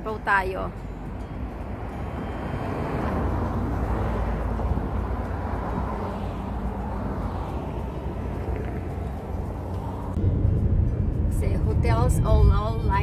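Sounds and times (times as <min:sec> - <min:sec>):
low traffic rumble: 0:00.0 - 0:13.0
vehicles passing: 0:00.0 - 0:13.0.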